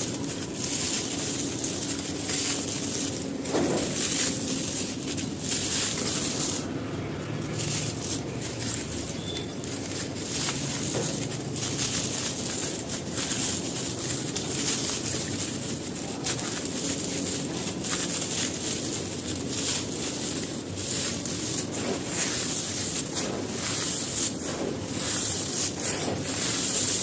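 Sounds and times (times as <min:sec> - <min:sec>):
crumbly material crushed by hand: 0:00.0 - 0:27.0.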